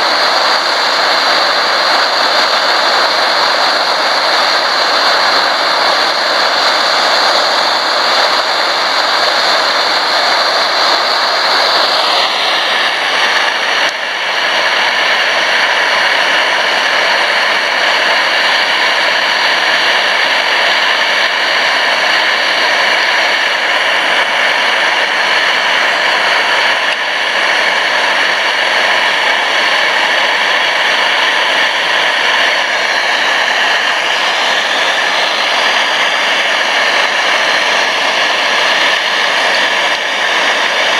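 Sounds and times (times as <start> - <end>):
camping stove roaring: 0.0 - 40.9.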